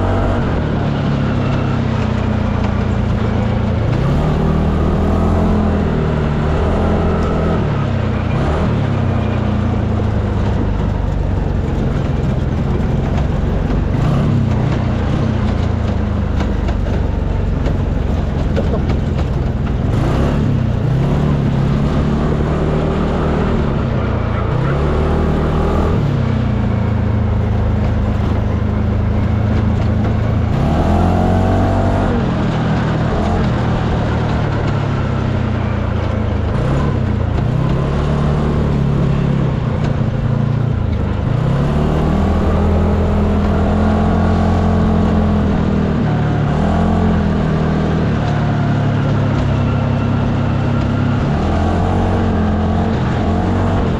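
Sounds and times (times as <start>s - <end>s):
utility vehicle engine revving: 0.0s - 53.9s.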